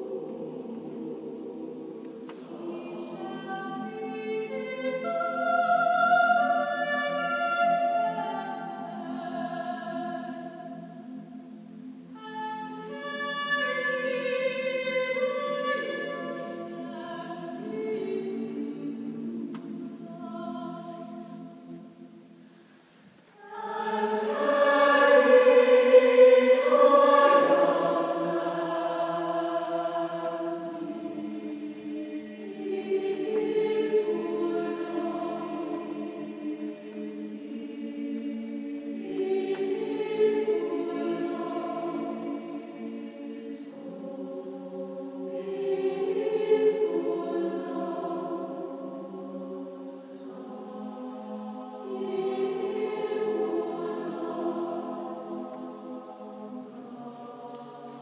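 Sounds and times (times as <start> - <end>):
mixed choir singing a cappella: 0.0 - 22.5, 23.4 - 58.0.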